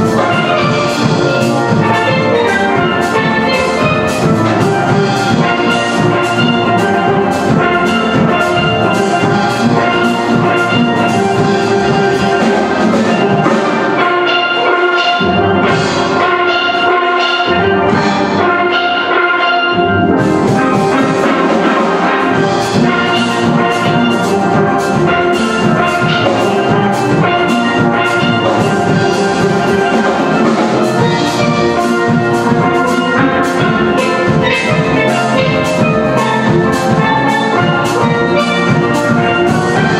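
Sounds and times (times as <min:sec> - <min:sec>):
steel band playing calypso: 0:00.0 - 0:39.9.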